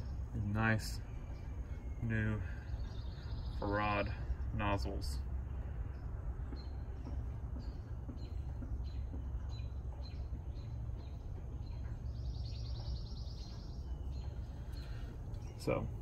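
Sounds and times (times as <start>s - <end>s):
low background rumble: 0.0s - 16.0s
rapid pulsed bird trill: 0.0s - 16.0s
small birds chirping: 0.0s - 16.0s.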